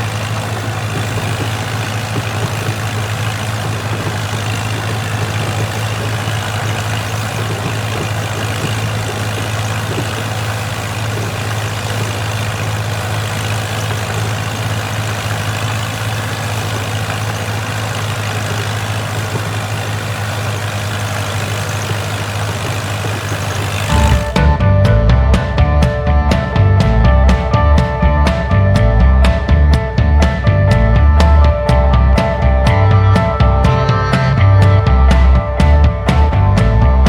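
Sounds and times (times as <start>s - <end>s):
machinery engine humming: 0.0s - 37.0s.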